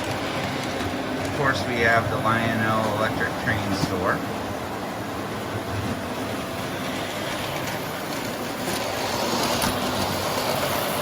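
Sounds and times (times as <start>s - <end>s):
model train wheels on rails: 0.0s - 11.0s.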